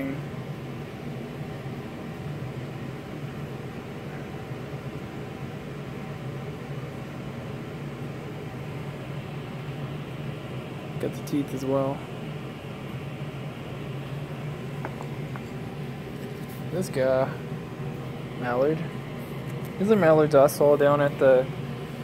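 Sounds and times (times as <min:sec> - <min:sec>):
ventilation hum and hiss: 0:00.0 - 0:22.0.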